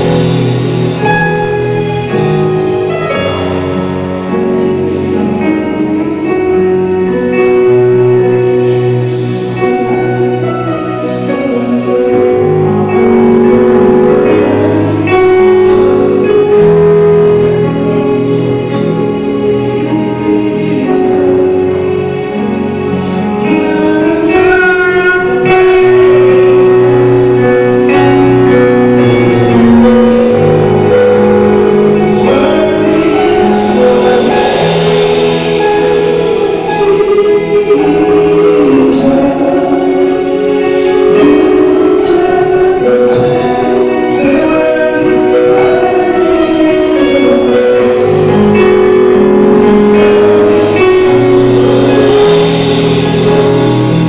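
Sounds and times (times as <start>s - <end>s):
gospel singing with instruments: 0.0s - 54.0s.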